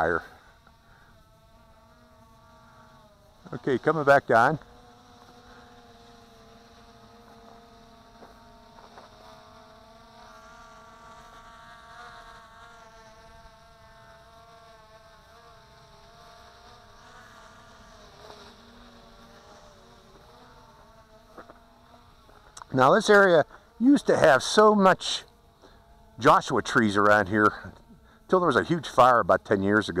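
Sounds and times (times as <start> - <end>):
quadcopter propellers buzzing: 0.0 - 30.0.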